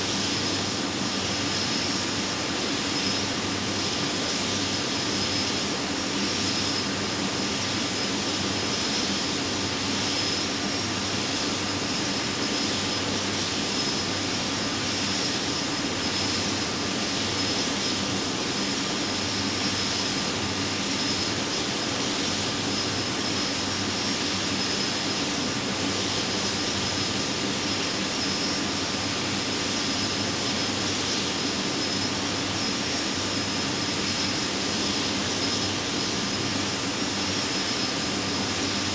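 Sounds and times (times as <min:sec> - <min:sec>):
airflow and jet engine rush: 0:00.0 - 0:38.9
high steady whine: 0:00.0 - 0:38.9.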